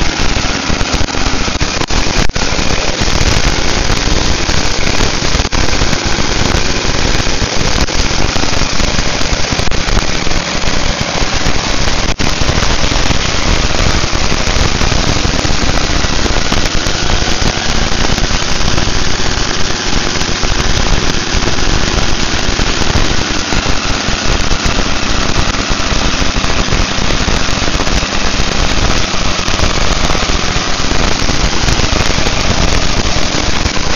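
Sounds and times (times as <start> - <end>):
motorcycle engine running loudly: 0.0 - 33.9.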